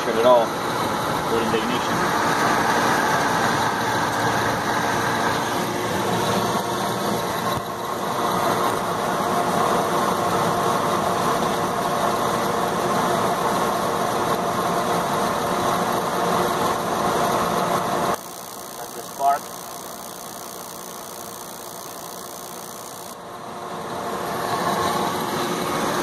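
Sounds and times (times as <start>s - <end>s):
motor and fan hum: 0.0s - 26.0s.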